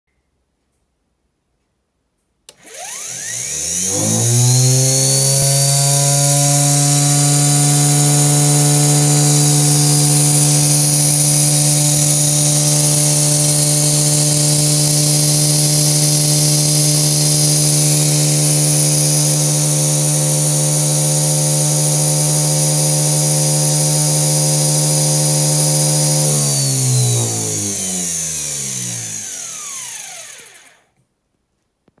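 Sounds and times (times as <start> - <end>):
starter-generator whining: 2.5 - 31.0.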